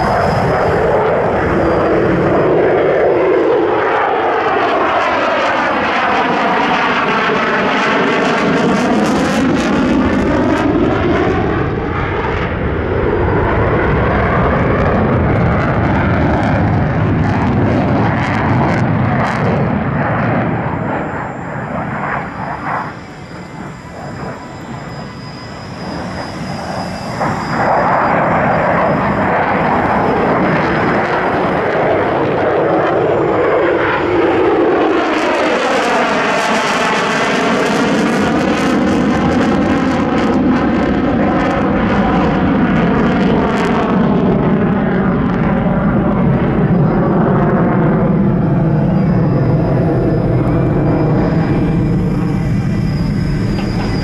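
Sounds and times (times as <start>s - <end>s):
jet engine passing overhead: 0.0s - 54.0s.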